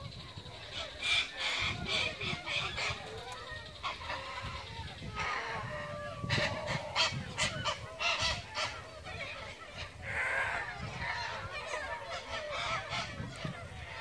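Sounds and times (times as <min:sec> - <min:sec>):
geese honking: 0:00.7 - 0:14.0.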